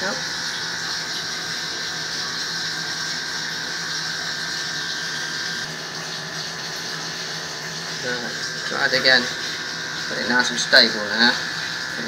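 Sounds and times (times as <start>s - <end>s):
gas boiler humming: 0.0s - 12.0s.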